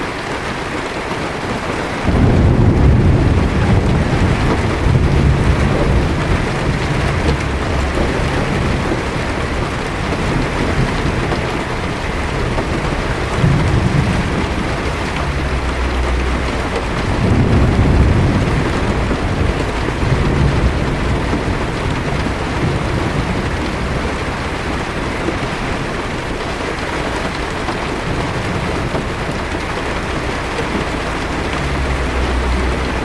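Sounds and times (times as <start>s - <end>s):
heavy rain on a car: 0.0s - 33.0s
thunder rumbling: 1.4s - 33.0s.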